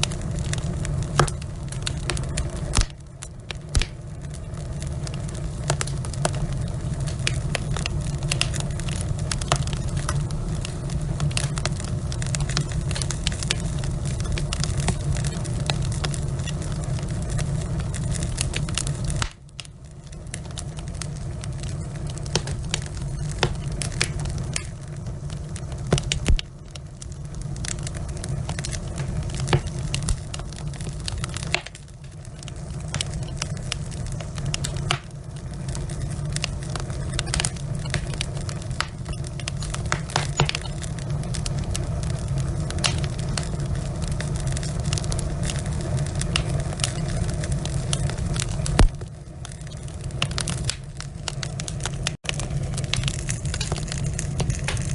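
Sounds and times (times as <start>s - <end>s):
log fire crackling: 0.0s - 54.9s.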